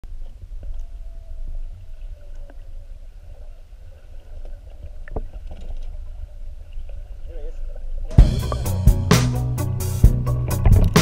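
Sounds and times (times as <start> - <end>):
underwater water rumble: 0.1 - 11.0.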